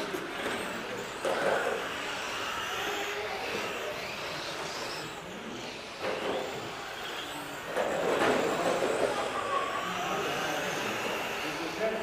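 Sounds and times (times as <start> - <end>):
toy car motor whirring: 0.0 - 12.0.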